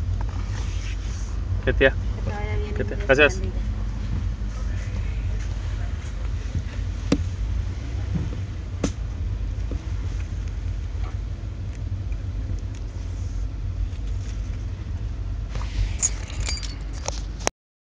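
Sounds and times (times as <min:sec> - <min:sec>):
car engine rumbling: 0:00.0 - 0:17.5.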